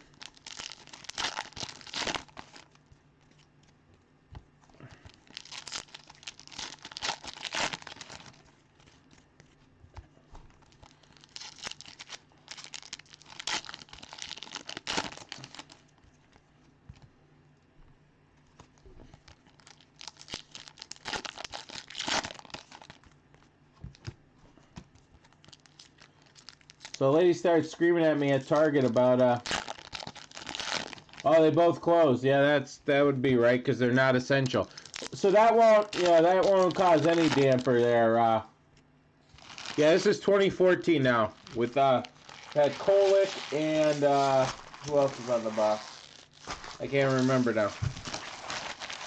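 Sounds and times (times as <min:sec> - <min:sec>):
plastic wrapping crinkling and tearing: 0:00.0 - 0:03.7, 0:04.8 - 0:09.6, 0:10.4 - 0:16.4, 0:18.6 - 0:24.0, 0:25.1 - 0:31.5, 0:34.4 - 0:38.0, 0:39.2 - 0:49.0.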